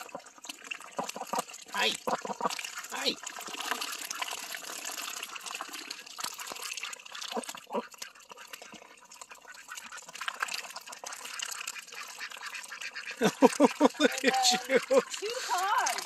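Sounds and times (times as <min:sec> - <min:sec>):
ducks dabbling in muddy water: 0:00.0 - 0:16.0.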